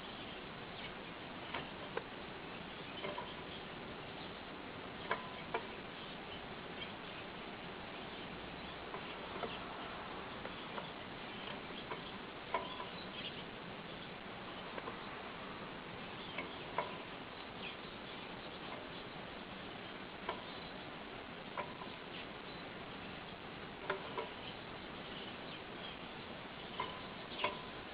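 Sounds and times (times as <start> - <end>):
canaries chirping: 0.0 - 27.9
steady hiss: 0.0 - 27.9.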